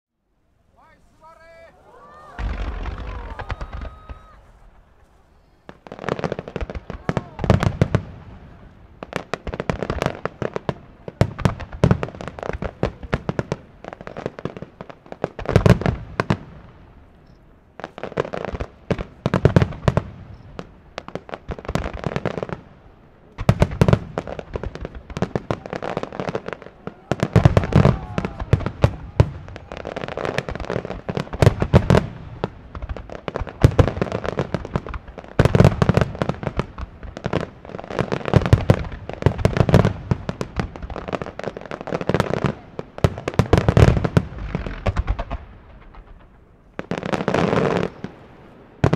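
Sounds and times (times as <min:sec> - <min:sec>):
fireworks booms and cracks: 0:00.8 - 0:48.9.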